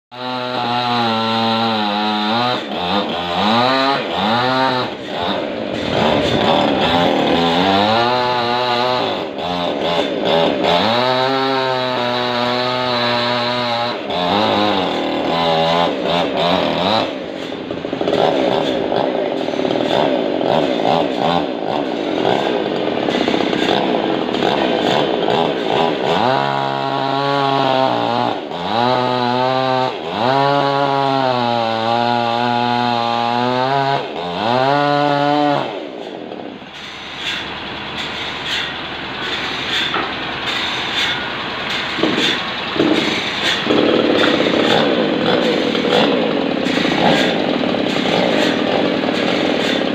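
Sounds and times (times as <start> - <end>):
chainsaw cutting log: 0.1 - 49.9.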